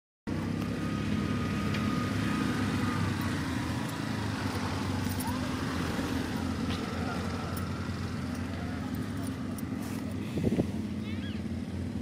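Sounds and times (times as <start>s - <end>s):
low engine drone: 0.3s - 12.0s.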